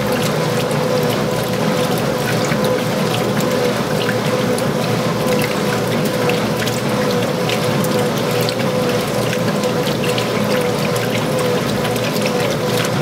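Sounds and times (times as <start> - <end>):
washer drive hum: 0.0 - 13.0
water sloshing in washer: 0.0 - 13.0.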